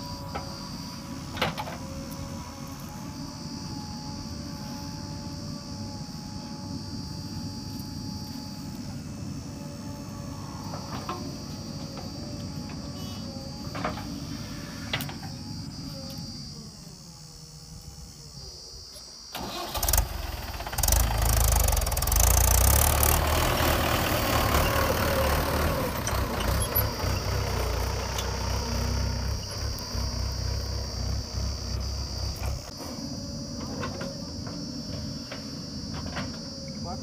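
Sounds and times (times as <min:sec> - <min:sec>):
diesel engines droning: 0:00.0 - 0:18.0, 0:19.4 - 0:37.0.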